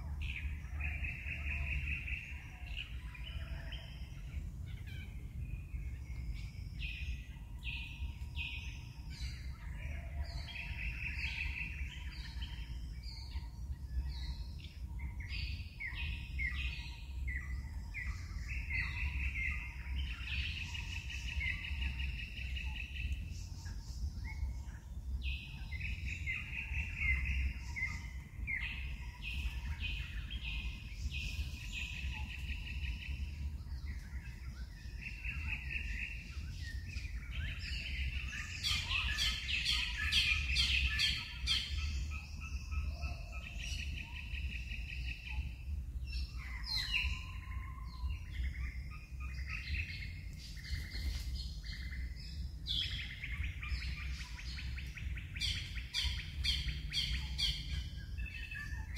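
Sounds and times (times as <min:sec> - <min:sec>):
steady low rumble: 0:00.0 - 0:58.9
wild birds chirping: 0:00.0 - 0:58.9.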